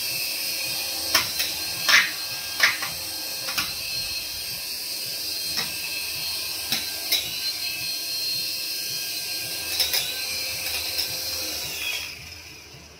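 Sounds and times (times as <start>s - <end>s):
toy helicopter whine: 0.0s - 12.9s.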